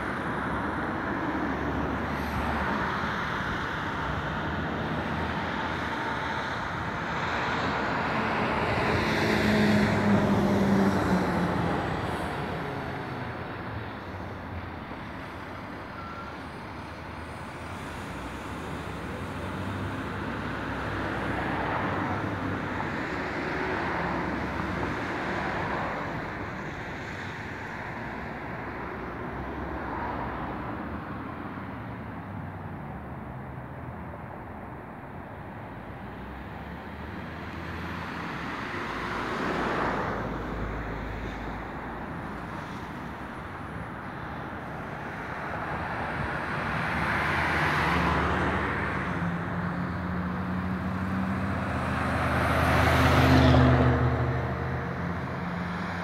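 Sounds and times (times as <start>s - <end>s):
traffic hum: 0.0s - 56.0s
vehicles passing by: 0.0s - 56.0s.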